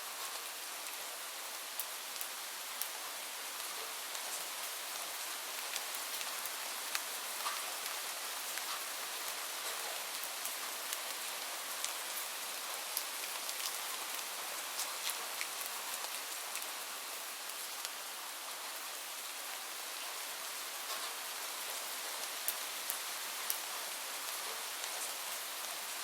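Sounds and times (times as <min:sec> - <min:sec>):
light rain hissing: 0:00.0 - 0:26.0.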